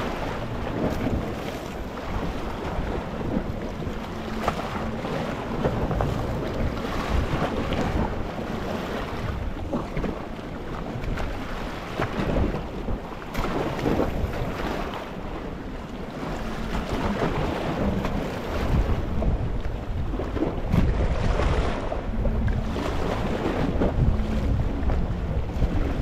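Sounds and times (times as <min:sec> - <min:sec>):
sea waves lapping on rocky shore: 0:00.0 - 0:26.0.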